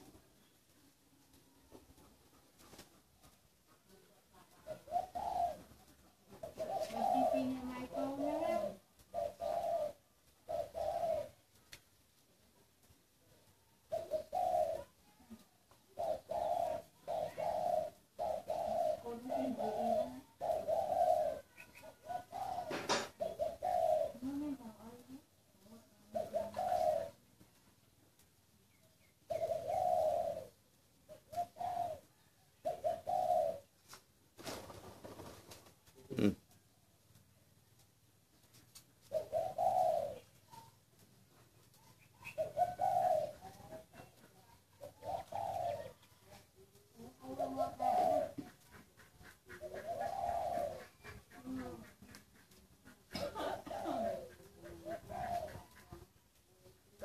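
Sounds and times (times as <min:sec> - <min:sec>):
dove cooing: 0:00.0 - 0:27.9, 0:28.9 - 0:33.8, 0:38.4 - 0:57.0.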